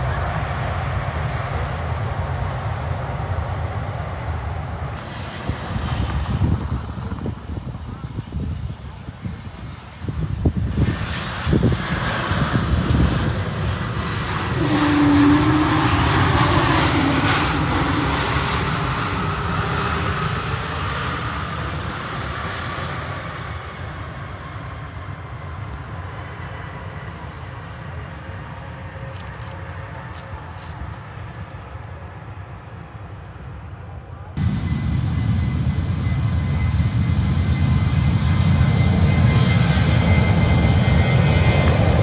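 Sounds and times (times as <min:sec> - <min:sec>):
jet engines running: 0:00.0 - 0:33.7, 0:34.4 - 0:42.0.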